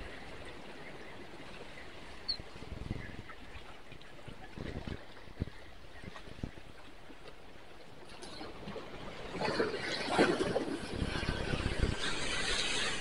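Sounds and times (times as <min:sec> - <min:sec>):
small waves against rocks: 0:00.0 - 0:13.0.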